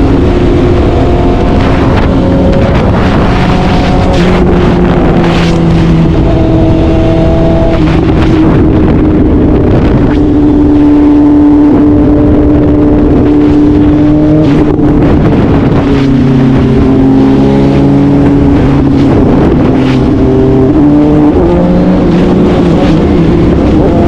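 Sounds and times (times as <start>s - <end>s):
motorcycle engine at high revs: 0.0s - 24.0s
wind noise on microphone: 0.0s - 24.0s.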